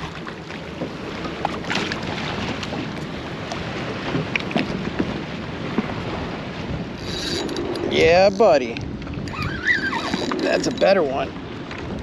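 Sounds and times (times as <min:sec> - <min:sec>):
water lapping against a kayak hull: 0:00.0 - 0:12.0
wind buffeting the microphone: 0:00.7 - 0:12.0.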